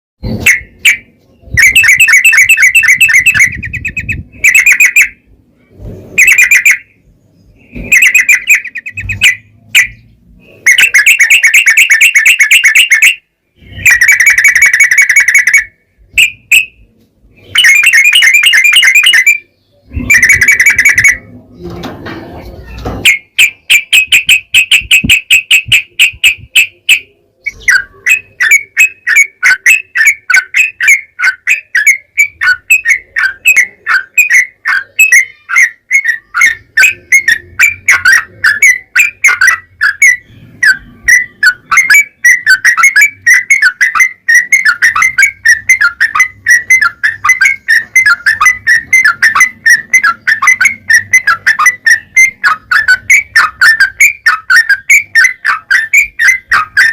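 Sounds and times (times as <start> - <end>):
bulbul song: 0.2 - 56.9.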